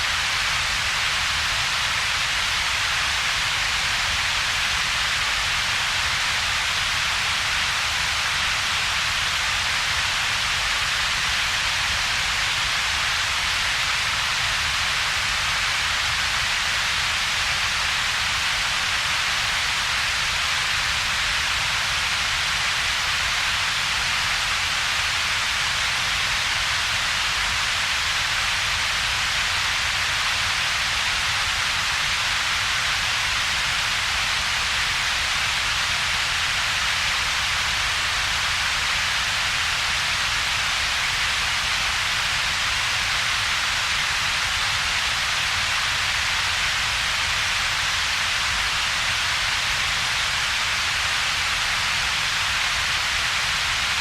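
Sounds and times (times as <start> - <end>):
steady synthetic noise hiss: 0.0 - 54.0.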